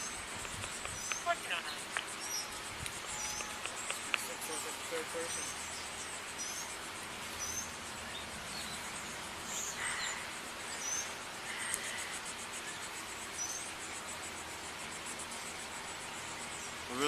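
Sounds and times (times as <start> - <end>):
insects trilling: 0.0 - 17.0
steady background hiss: 0.0 - 17.0.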